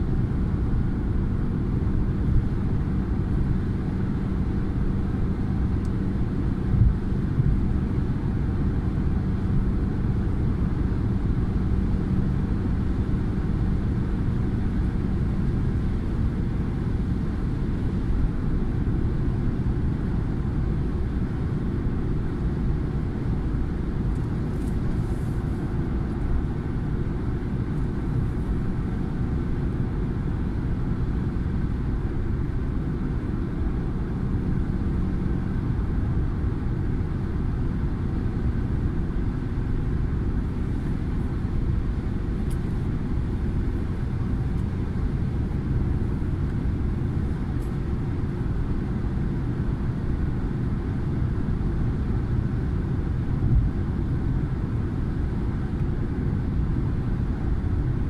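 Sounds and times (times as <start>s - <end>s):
car road noise rumble: 0.0s - 58.0s
constant low hum: 0.0s - 58.0s.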